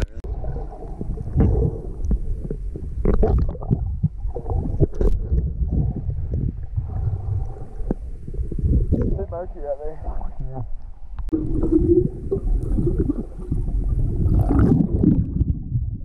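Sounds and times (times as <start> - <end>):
underwater rumbling and gurgling: 0.0 - 16.0.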